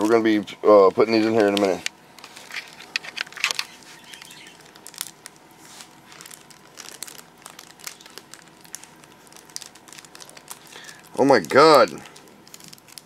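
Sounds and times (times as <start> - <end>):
plastic bag and paper crinkling: 1.1 - 13.0.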